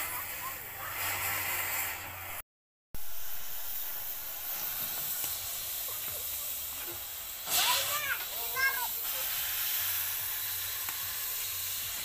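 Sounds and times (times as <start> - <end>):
gas cutting torch hissing: 0.0 - 2.4, 3.0 - 12.0.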